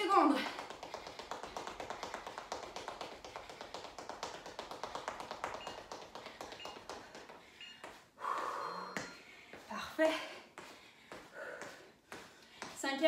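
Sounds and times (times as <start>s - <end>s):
sneakers tapping on tile floor: 0.3s - 13.0s.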